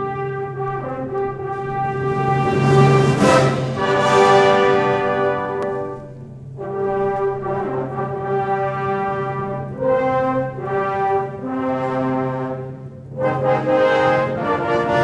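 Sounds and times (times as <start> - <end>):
slow brass chords: 0.0 - 15.0.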